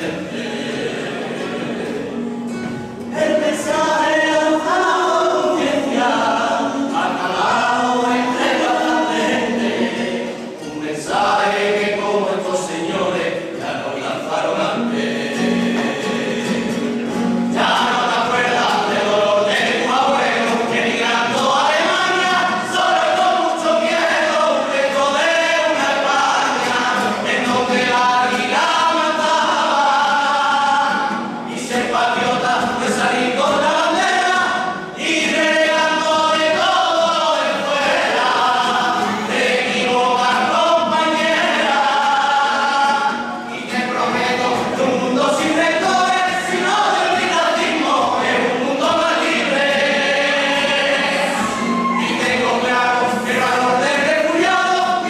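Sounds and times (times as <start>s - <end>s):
group singing in chorus: 0.0s - 55.0s.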